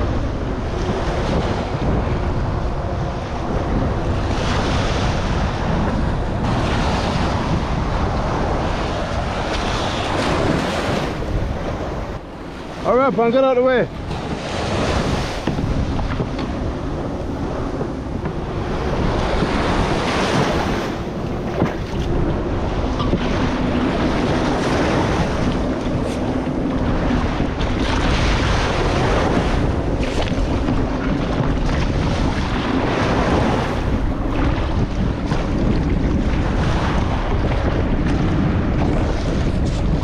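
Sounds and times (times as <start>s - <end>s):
choppy water and surf: 0.0s - 40.0s
water splashing against kayak: 0.0s - 40.0s
wind buffeting microphone: 0.0s - 40.0s.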